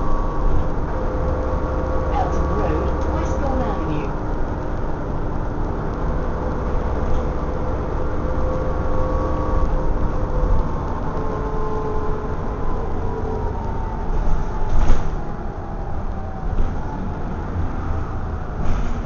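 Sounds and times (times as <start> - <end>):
bus engine and road rumble: 0.0 - 19.0
faint whine: 0.0 - 19.0.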